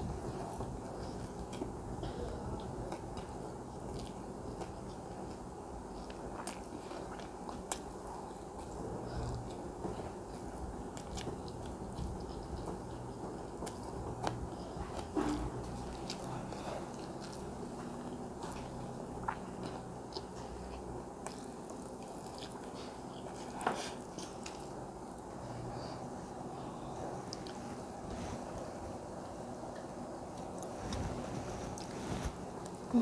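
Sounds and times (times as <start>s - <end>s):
low background hum: 0.0s - 33.0s
chewing food: 0.1s - 26.0s, 26.6s - 33.0s.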